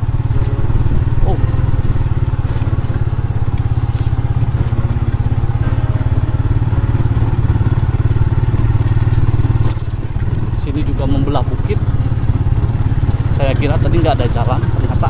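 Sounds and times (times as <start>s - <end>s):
motorcycle engine running: 0.0s - 15.0s
sharp clicks and rattles: 0.0s - 15.0s.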